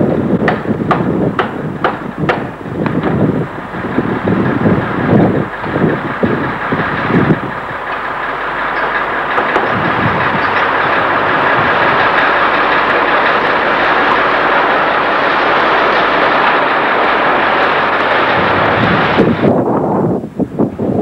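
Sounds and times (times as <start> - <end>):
tram rolling rumble: 0.0 - 21.0
wind gusts on microphone: 0.0 - 21.0.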